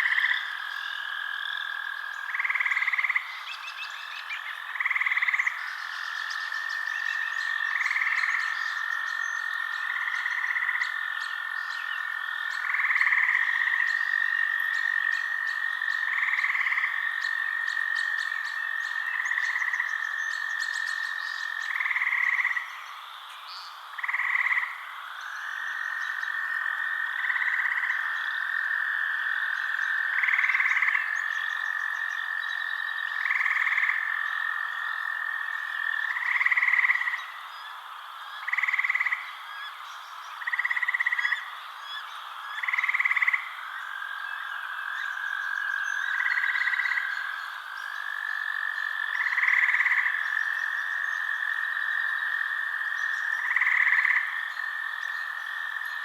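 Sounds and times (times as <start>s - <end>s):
frogs trilling: 0.0s - 56.0s
louder frog calls: 0.0s - 56.0s.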